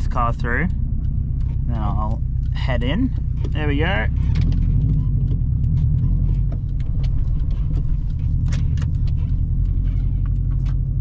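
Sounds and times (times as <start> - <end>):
car engine running low speed: 0.0 - 11.0
light clicks and rattles: 0.0 - 11.0.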